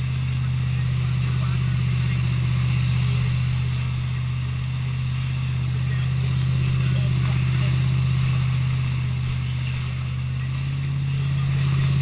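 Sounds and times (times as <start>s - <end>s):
boat engine drone: 0.0s - 12.0s
hiss of churning wake: 0.0s - 12.0s.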